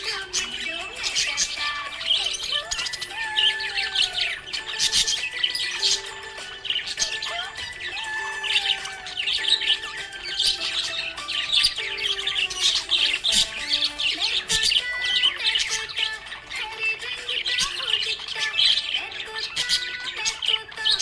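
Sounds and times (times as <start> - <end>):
background music with held notes: 0.0 - 21.0
budgerigars chirping: 0.0 - 21.0.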